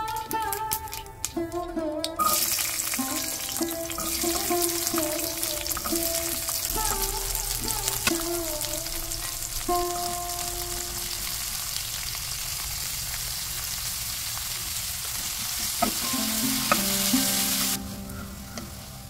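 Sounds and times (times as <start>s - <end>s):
seeds crackling in hot oil: 0.0s - 19.0s
shallots sizzling in oil: 2.2s - 19.0s.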